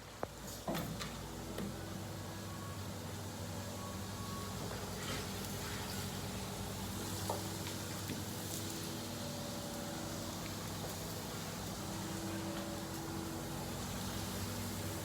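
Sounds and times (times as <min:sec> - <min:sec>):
low hum of running equipment: 0:00.0 - 0:15.0.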